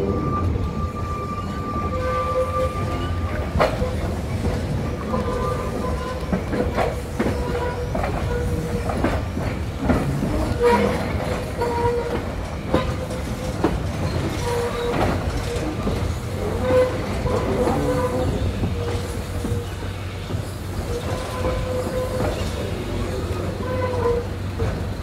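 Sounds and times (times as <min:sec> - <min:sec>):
train carriages rumbling: 0:00.0 - 0:25.0
wheels clicking over rail joints: 0:02.8 - 0:25.0.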